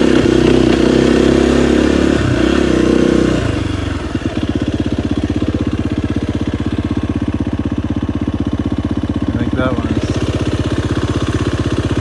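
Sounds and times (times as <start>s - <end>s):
dirt bike engine: 0.0s - 12.0s.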